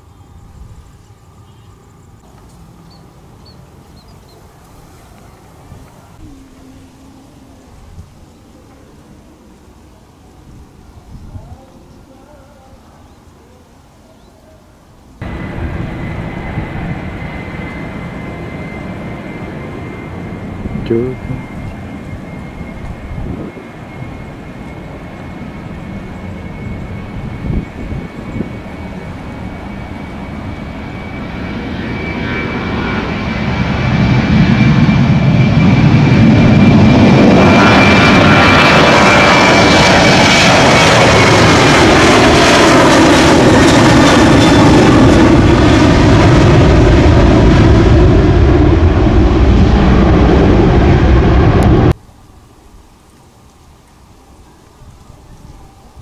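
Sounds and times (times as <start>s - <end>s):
jet engines taking off: 0.0s - 11.9s, 14.9s - 52.0s.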